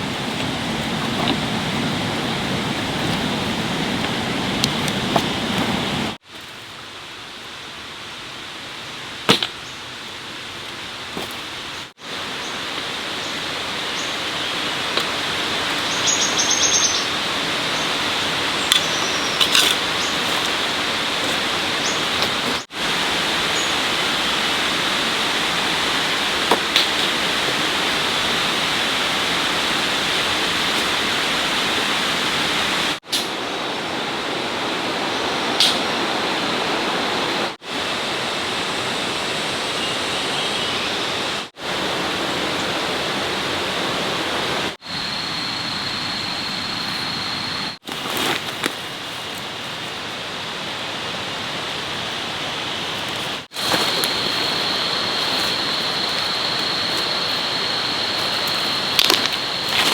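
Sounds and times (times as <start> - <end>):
rushing water: 0.0 - 40.1, 40.7 - 44.8, 47.1 - 59.9.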